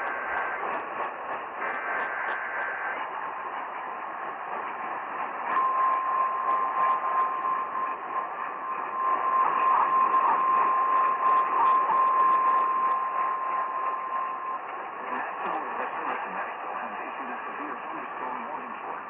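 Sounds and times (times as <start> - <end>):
heavy radio static: 0.0 - 19.0.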